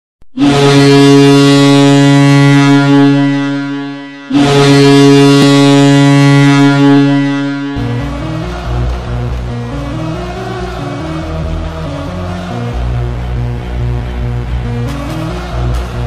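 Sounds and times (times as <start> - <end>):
deep goal horn blasts: 0.3 - 16.0
goal music: 0.4 - 16.0.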